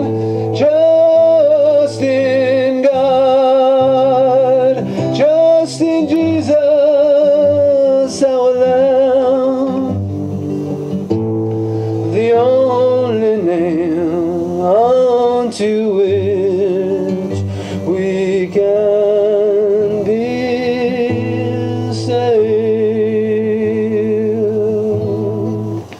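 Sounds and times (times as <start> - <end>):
person singing with vibrato: 0.0 - 10.4, 11.7 - 25.9.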